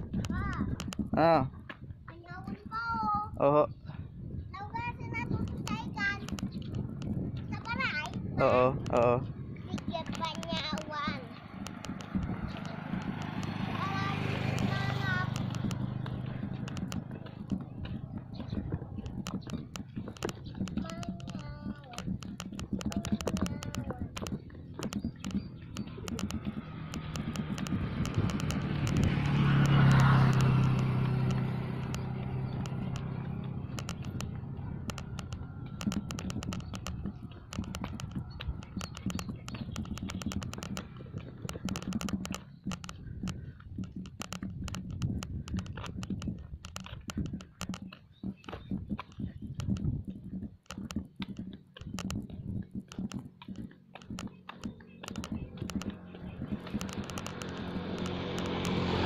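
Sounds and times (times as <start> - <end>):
irregular clicks and crackles: 0.0 - 1.2, 5.2 - 59.0
motorcycle engine passing: 0.0 - 59.0
vehicle engine approaching: 0.0 - 59.0.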